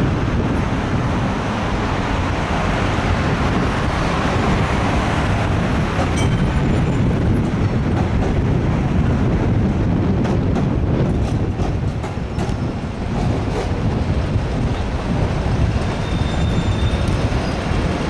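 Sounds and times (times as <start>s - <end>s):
road traffic: 0.0s - 18.0s
tram running on street track: 0.0s - 18.0s.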